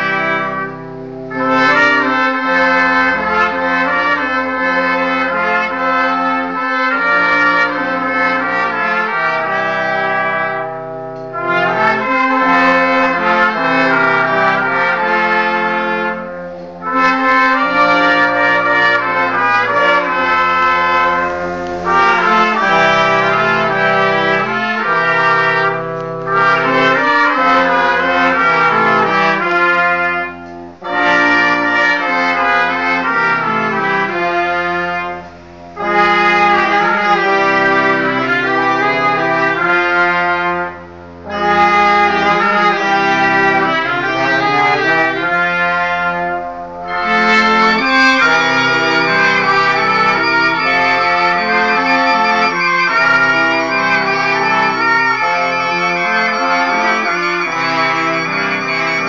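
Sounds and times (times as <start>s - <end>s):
brass street band playing: 0.0s - 59.0s.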